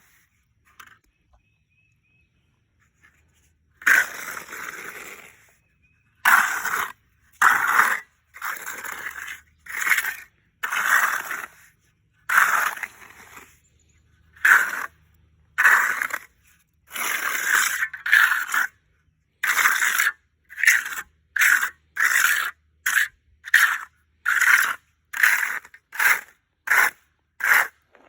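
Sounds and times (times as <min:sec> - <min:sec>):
trowel scraping wet concrete: 0:02.9 - 0:28.0.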